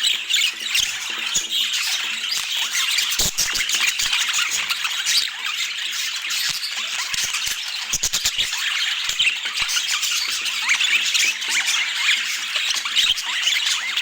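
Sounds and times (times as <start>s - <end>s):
budgerigars chattering and chirping: 0.0s - 14.0s.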